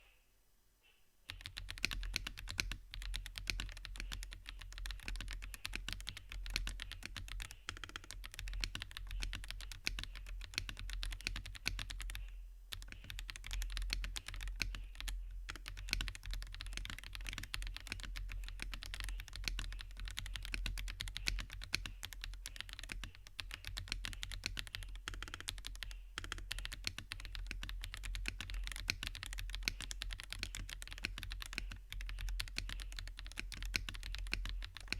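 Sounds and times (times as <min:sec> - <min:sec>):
fast mechanical keyboard typing: 0:01.3 - 0:34.9.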